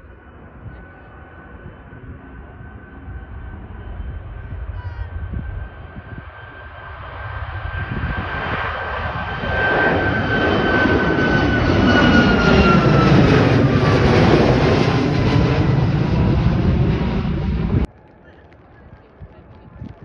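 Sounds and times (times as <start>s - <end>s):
high jet engine whine: 0.0s - 20.0s
jet engines roaring overhead: 0.0s - 20.0s.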